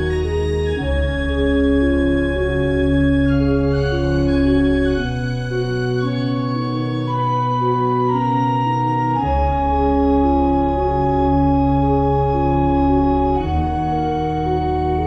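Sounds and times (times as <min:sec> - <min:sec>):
deep bass: 0:00.0 - 0:15.0
slow held chords: 0:00.0 - 0:15.0.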